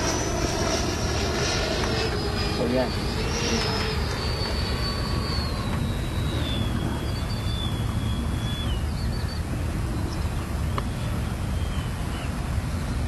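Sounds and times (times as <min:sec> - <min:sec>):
electric ducted fans whining: 0:00.0 - 0:13.0
wind rumble on microphone: 0:00.0 - 0:13.0.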